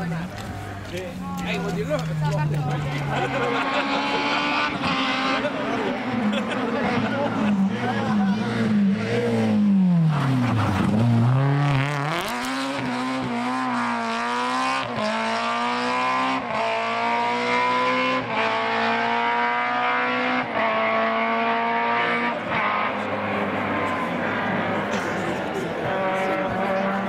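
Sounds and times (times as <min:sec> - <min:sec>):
rally car engine accelerating: 0:01.6 - 0:27.0.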